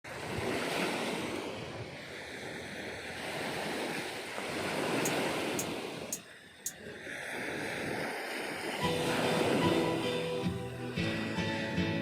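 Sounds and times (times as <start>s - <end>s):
sea waves washing ashore: 0.1s - 12.0s.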